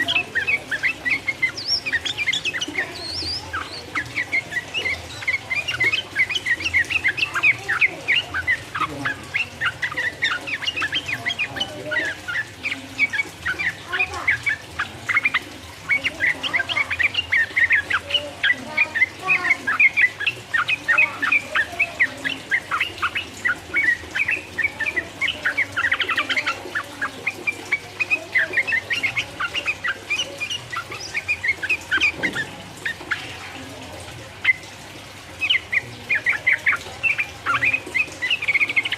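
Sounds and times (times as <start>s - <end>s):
bird singing chirpy notes: 0.0s - 38.9s.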